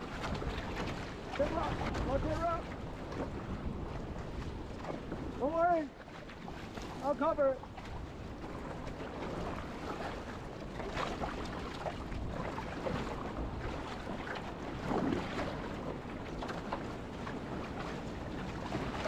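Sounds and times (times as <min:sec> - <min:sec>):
water slapping against boat: 0:00.0 - 0:19.0
wind buffeting microphone: 0:00.0 - 0:19.0.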